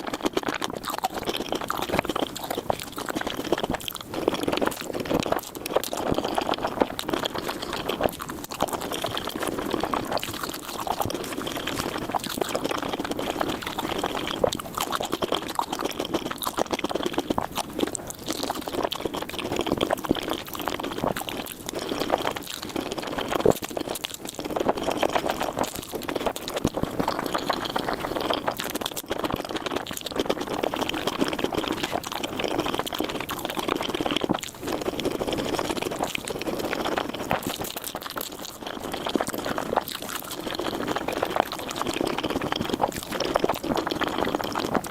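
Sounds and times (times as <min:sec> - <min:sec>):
wet chewing and slurping: 0:00.0 - 0:44.9.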